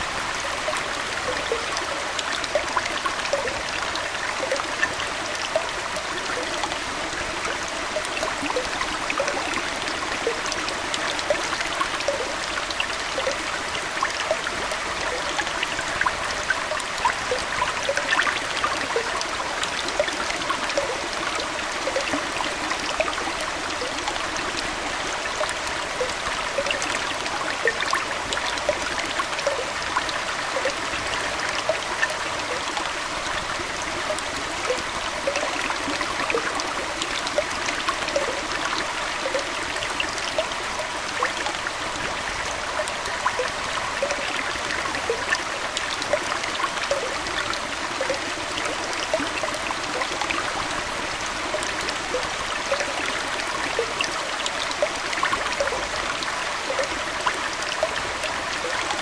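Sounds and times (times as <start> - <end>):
aquarium water trickling: 0.0 - 59.0.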